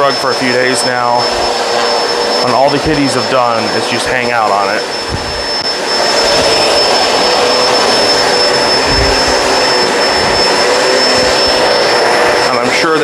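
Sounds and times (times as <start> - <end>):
vacuum cleaner running on rug: 0.0 - 13.0.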